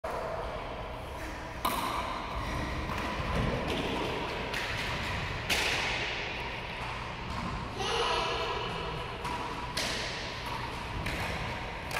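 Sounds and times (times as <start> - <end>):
racquetball smacks with echo: 1.6 - 11.9.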